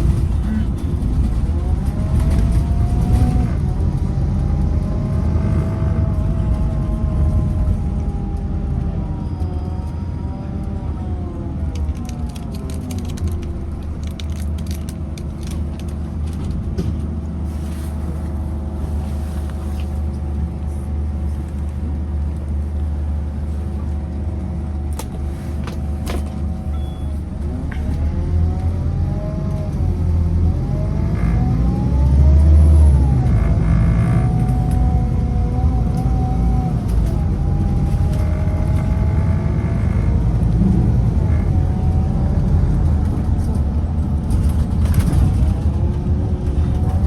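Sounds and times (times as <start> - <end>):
bus engine rumbling: 0.0 - 47.0.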